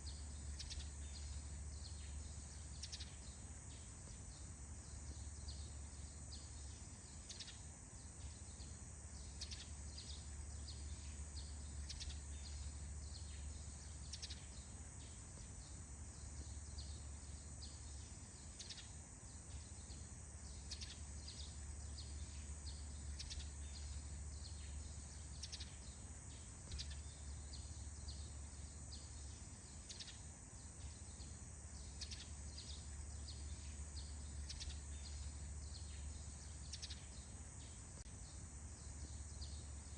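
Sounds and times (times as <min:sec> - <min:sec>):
background hiss: 0:00.0 - 0:39.9
bird chirps: 0:00.0 - 0:39.9.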